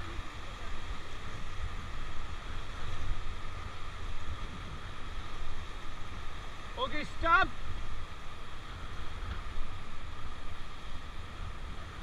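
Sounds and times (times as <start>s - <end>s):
wind rumbling on microphone: 0.0s - 6.8s, 7.6s - 12.0s
whitewater rushing: 0.0s - 12.0s.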